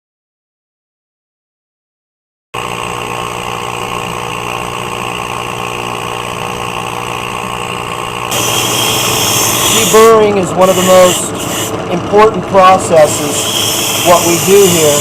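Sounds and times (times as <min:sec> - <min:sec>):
factory machinery humming: 0:02.6 - 0:15.0.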